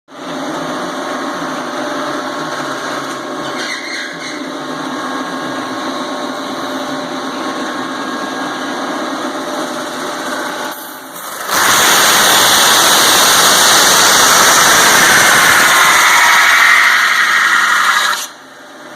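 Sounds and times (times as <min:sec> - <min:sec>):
metal-spinning lathe whir: 0:00.2 - 0:18.9.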